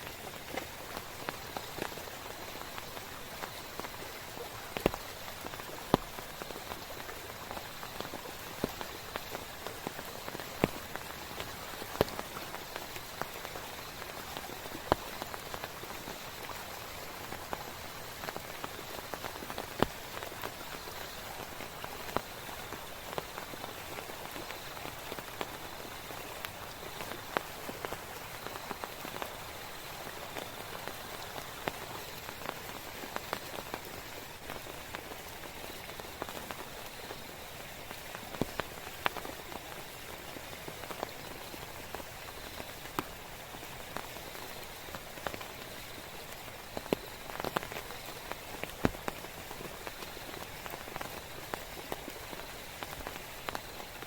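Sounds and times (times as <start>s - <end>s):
raindrops tapping nearby: 0.0s - 54.0s.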